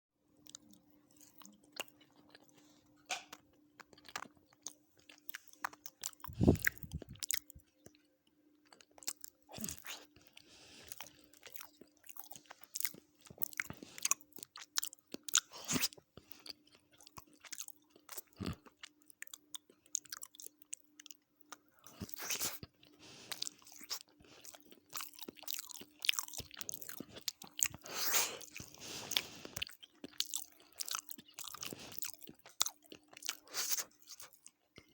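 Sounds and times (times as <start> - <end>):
crunchy eating and chewing: 0.4 - 34.9.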